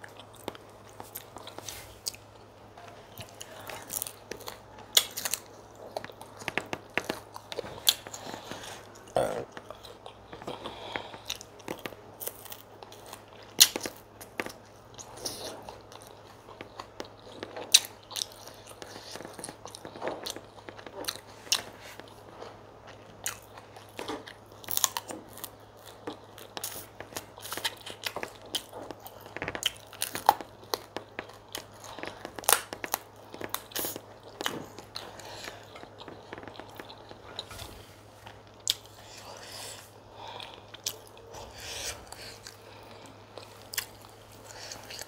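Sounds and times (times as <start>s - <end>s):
chewing: 0.0s - 45.0s.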